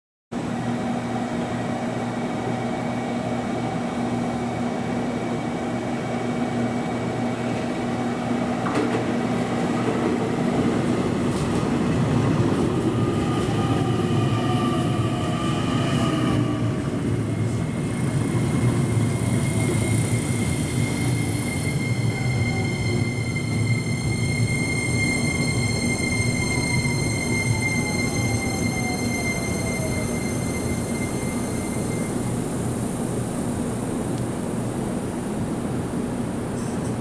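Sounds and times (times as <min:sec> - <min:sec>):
multi-tone train whine falling in pitch: 0:00.4 - 0:36.5
electric train humming: 0:00.4 - 0:36.9.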